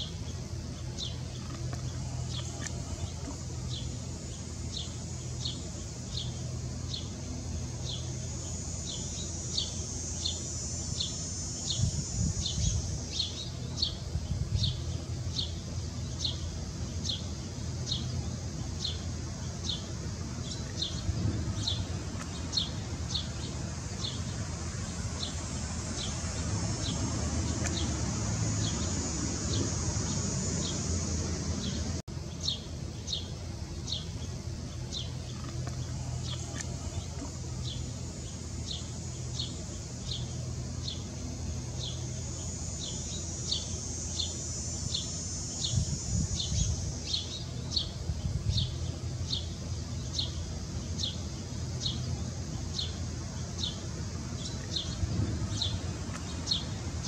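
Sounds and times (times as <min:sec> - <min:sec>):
low background rumble: 0:00.0 - 0:57.0.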